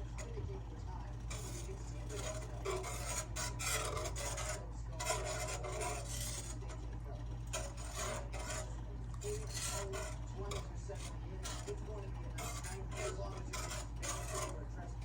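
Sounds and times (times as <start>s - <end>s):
steady low hum: 0.0s - 15.0s
utensil scraping against a pan: 0.0s - 15.0s.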